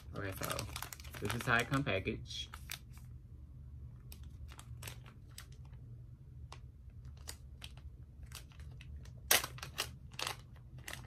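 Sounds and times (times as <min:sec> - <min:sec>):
packaging crinkling: 0:00.0 - 0:03.1, 0:04.0 - 0:11.0.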